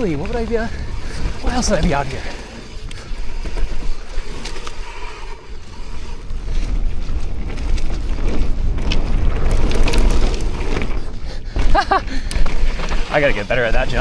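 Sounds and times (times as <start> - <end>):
bike clicks and rattles: 0.0 - 14.0
bike tyres rolling on dirt: 0.0 - 14.0
wind buffeting microphone: 0.0 - 14.0.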